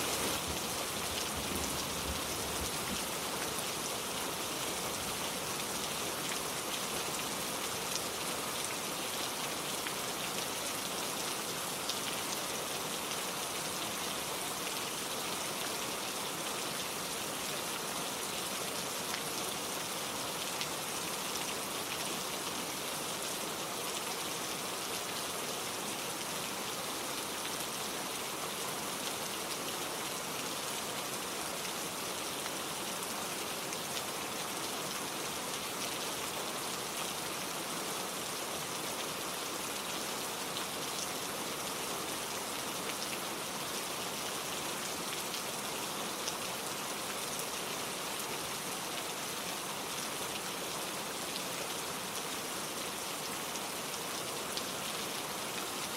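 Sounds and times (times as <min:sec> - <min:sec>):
gentle rain pattering: 0:00.0 - 0:55.9.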